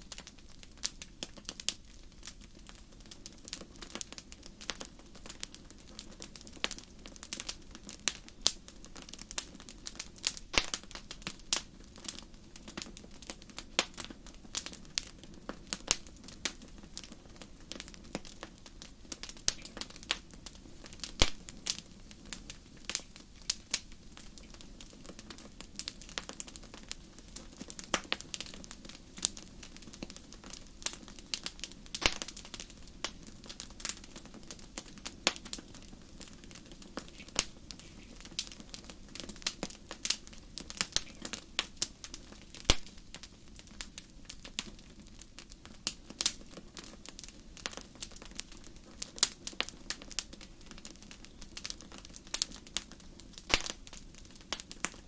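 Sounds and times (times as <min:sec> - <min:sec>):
fire crackling in fireplace: 0:00.0 - 0:55.0.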